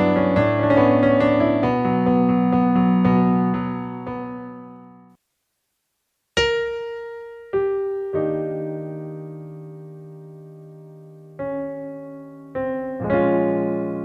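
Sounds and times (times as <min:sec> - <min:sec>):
solo piano: 0:00.0 - 0:05.2, 0:06.4 - 0:14.0.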